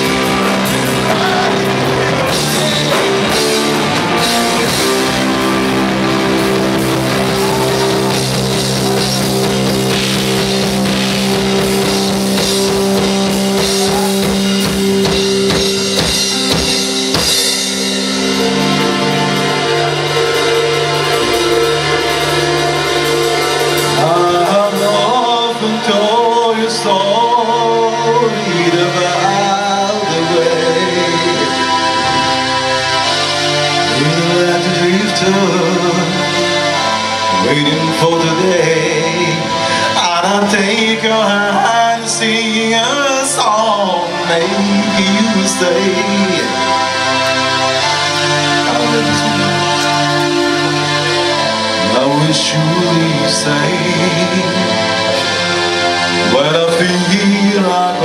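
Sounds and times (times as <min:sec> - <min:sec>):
bending lead guitar melody: 0:00.0 - 0:58.0
drum kit: 0:00.0 - 0:58.0
electric guitar chords: 0:00.0 - 0:58.0.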